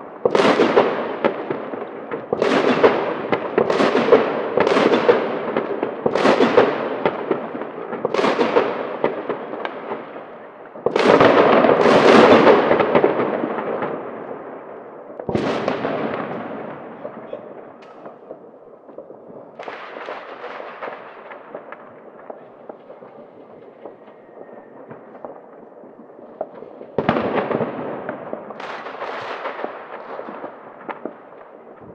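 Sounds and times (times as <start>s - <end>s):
firecrackers crackling: 0.0s - 31.9s
fireworks bangs echoing: 0.0s - 31.9s.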